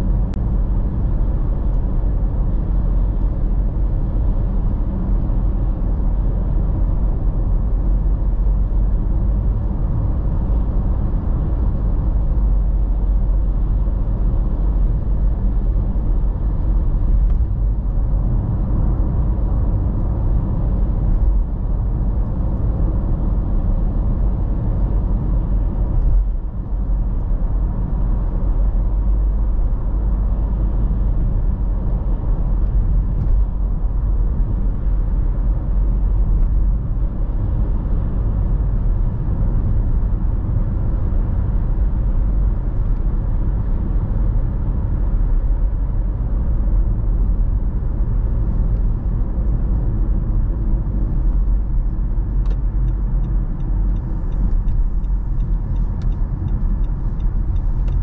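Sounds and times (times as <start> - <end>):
road and engine rumble in car: 0.0 - 58.0.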